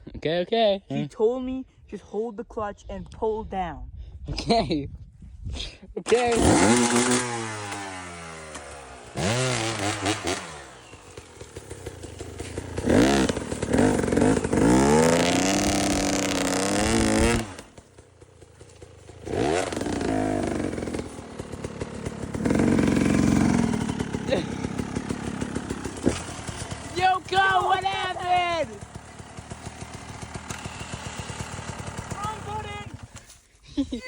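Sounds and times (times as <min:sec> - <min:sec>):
dirt bike engine revving: 0:06.1 - 0:33.4.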